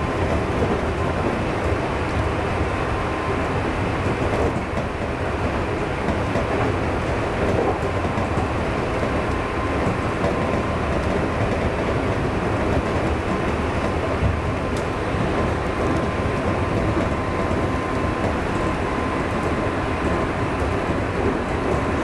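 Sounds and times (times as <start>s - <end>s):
electric train running noise: 0.0s - 22.0s.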